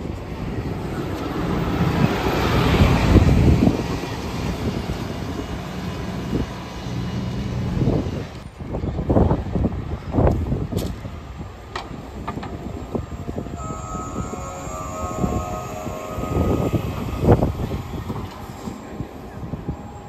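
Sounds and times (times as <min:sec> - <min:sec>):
bus passing by: 0:00.0 - 0:20.0.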